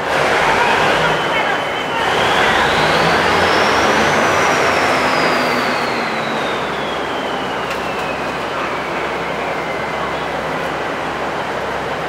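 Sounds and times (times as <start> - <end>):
high train whine: 0.0 - 12.0
train rushing in station: 0.0 - 12.0.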